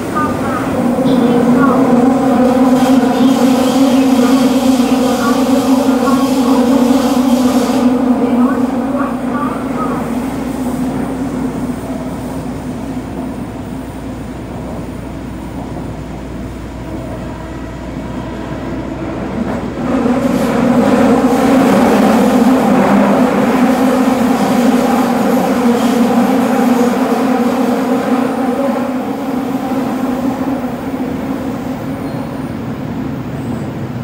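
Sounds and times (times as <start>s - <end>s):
subway car rumble and hum: 0.0s - 34.0s.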